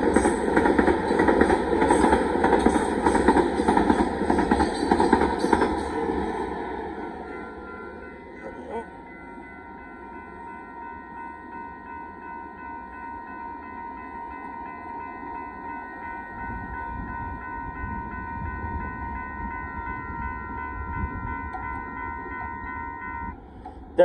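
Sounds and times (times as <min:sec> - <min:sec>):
railroad crossing bell ringing: 0:00.0 - 0:24.0.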